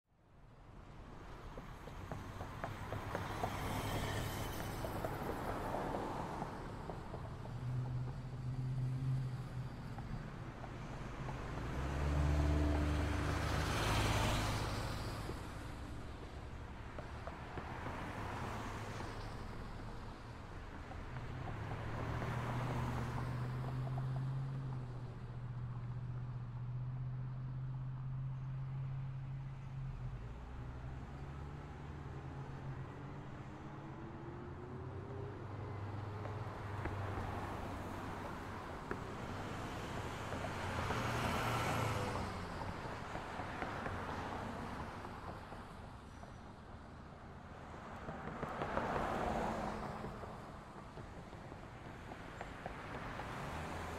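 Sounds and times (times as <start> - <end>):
road traffic noise: 0.1 - 53.9
vehicles passing: 0.2 - 53.9.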